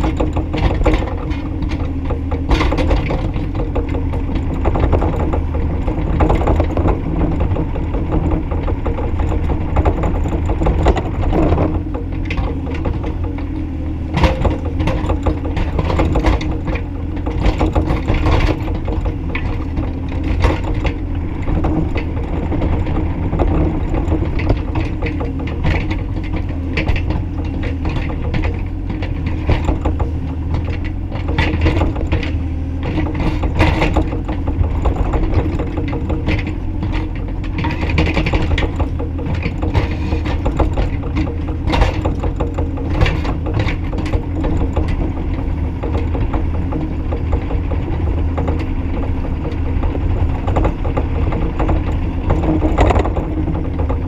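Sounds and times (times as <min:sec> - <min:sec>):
diesel engine running under load: 0:00.0 - 0:54.0
metallic clanks and rattles: 0:00.0 - 0:54.0.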